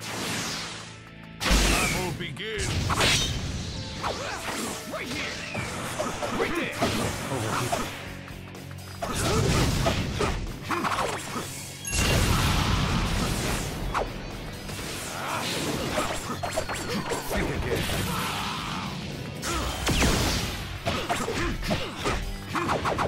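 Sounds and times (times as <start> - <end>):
action music: 0.0 - 23.0.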